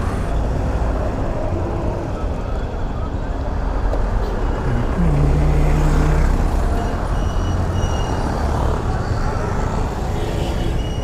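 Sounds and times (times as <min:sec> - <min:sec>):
traffic engines droning: 0:00.0 - 0:11.0.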